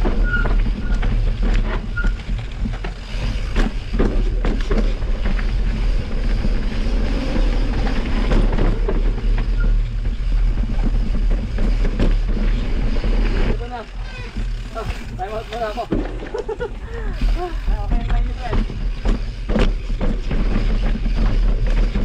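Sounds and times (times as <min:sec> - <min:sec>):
bike clattering over bumps: 0:00.0 - 0:22.0
wind rumble on microphone: 0:00.0 - 0:22.0.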